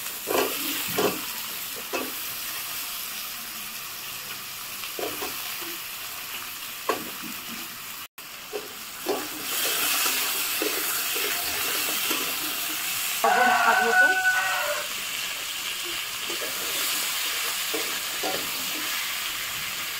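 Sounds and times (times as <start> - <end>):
potatoes sizzling in hot oil: 0.0 - 19.9.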